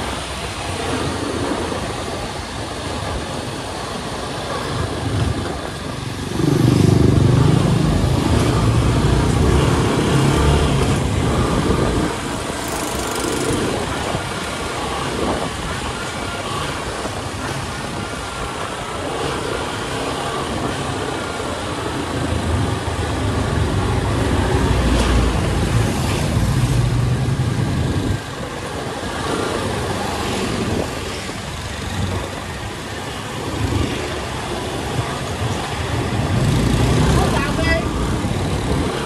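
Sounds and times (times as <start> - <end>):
road traffic rush: 0.0 - 39.0.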